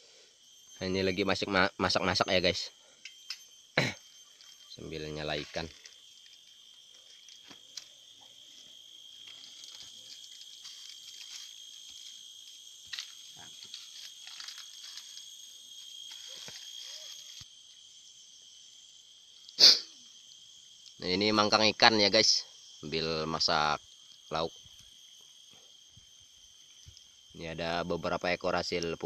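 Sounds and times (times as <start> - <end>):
insects chirping chorus: 0.0 - 29.0.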